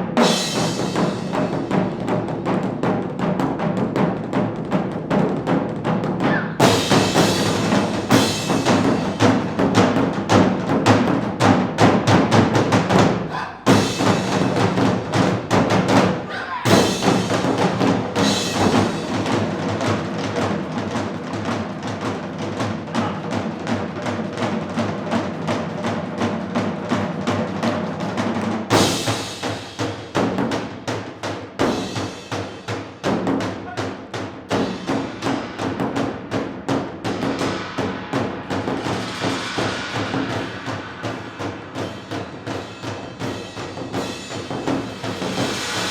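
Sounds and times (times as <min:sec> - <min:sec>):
percussion ensemble music: 0:00.0 - 0:45.9.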